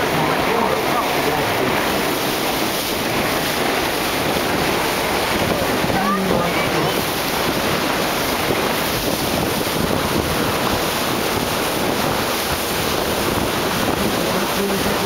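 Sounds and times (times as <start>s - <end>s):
water rushing along hull: 0.0s - 15.0s
wind noise on microphone: 0.0s - 15.0s.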